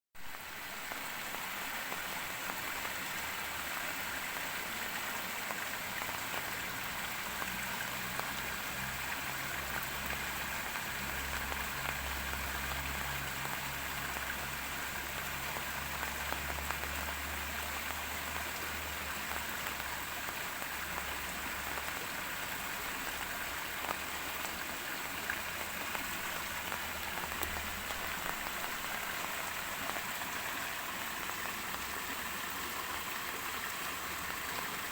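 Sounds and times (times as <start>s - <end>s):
steady rainfall: 0.2s - 34.9s.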